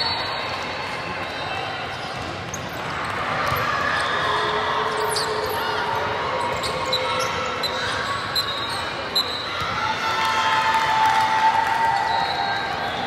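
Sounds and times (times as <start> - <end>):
murmur of voices: 0.0 - 13.0.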